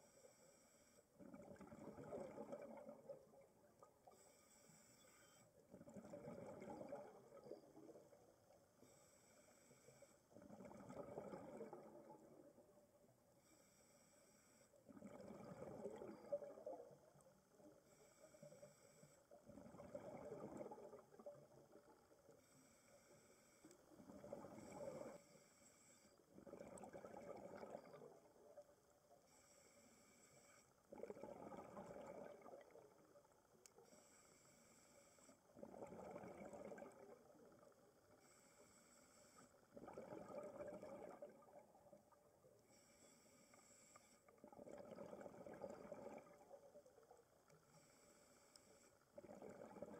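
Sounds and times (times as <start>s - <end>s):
exhaled air bubbling underwater: 1.1s - 4.4s, 5.0s - 8.9s, 9.9s - 13.4s, 14.8s - 38.5s, 39.2s - 43.0s, 43.8s - 49.9s.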